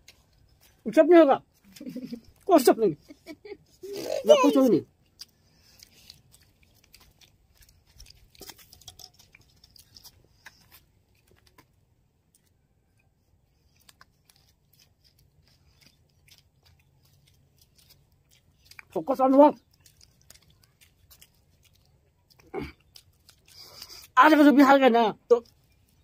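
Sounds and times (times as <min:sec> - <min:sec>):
faint chewing: 0:00.0 - 0:00.9, 0:01.5 - 0:02.6, 0:03.2 - 0:26.0.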